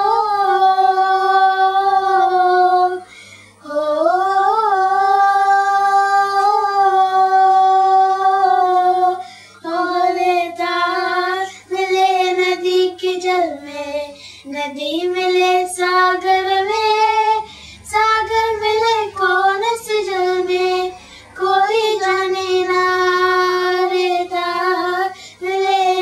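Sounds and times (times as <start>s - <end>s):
children singing: 0.0s - 26.0s.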